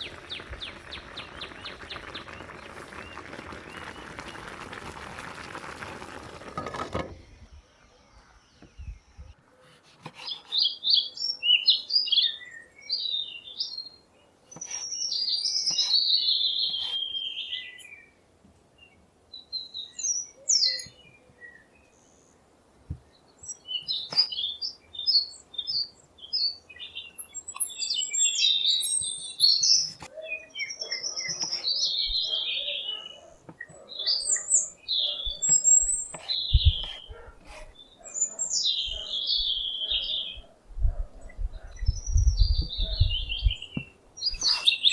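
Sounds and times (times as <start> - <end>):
songbirds chirping and warbling: 0.0 - 4.3, 7.1 - 44.9.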